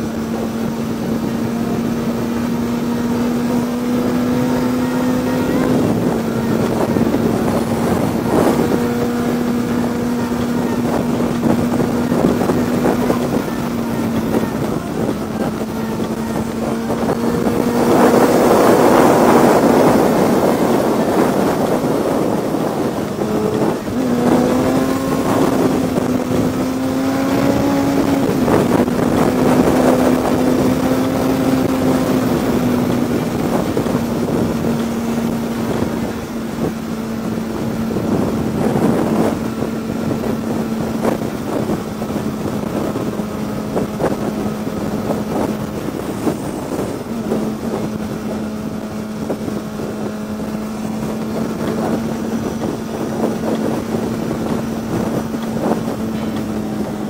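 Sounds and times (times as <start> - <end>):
motorcycle engine at speed: 0.0 - 57.0
wind rushing over microphone: 0.0 - 57.0.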